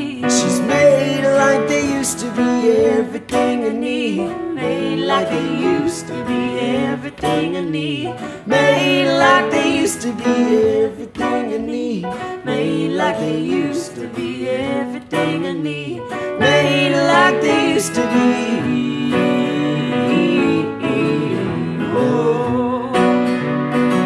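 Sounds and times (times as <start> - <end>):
acoustic accompaniment: 0.0 - 24.0
male and female voices singing: 0.0 - 24.0.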